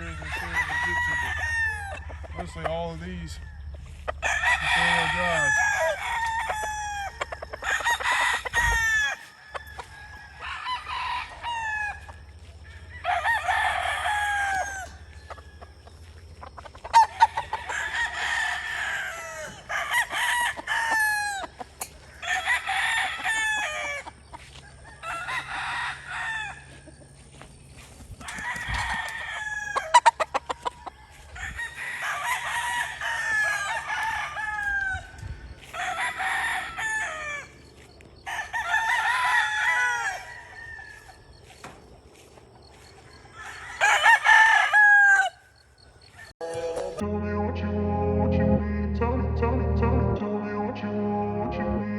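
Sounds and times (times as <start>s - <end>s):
roosters crowing: 0.0s - 51.9s.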